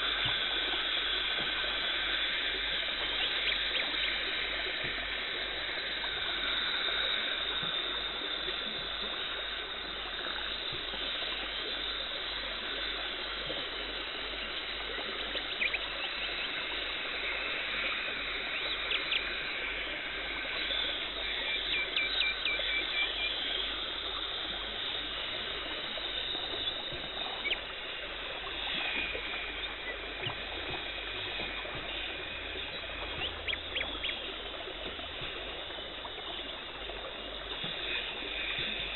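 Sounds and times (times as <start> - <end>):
water spray and suction hiss: 0.0 - 38.9.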